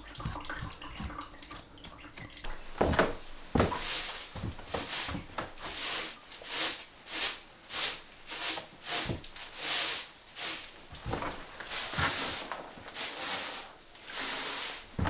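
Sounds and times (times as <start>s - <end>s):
straw broom sweeping boards: 2.5s - 15.0s.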